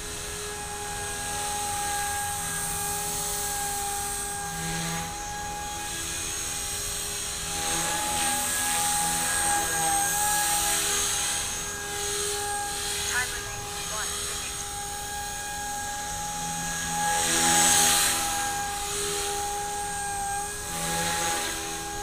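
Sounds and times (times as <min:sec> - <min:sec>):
rc helicopter rotor whine: 0:00.0 - 0:22.0.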